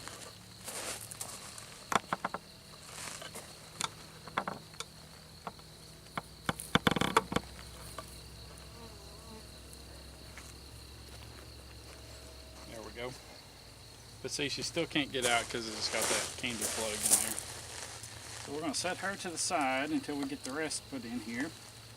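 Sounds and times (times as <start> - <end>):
high insect drone: 0.0 - 21.9.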